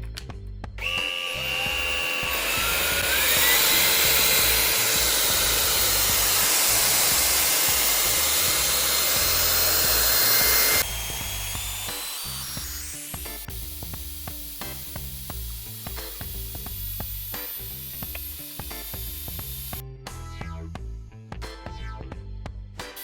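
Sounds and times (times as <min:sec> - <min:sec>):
stick vacuum motor whine: 0:00.8 - 0:19.8.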